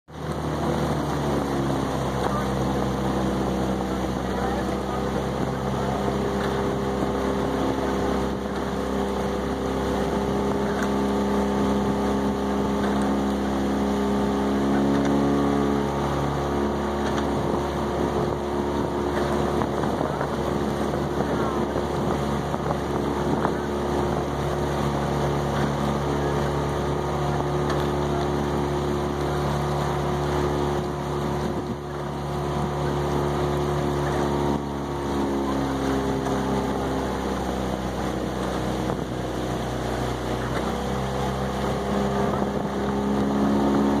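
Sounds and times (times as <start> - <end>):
outboard motor running: 0.0 - 44.0
wind on microphone: 0.4 - 40.8, 41.4 - 44.0.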